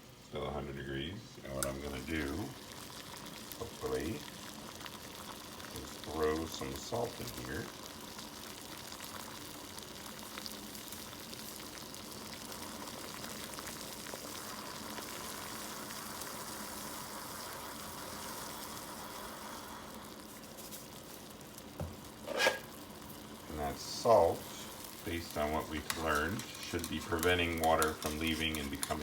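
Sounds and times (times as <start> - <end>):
water boiling in pot: 0.0 - 29.0.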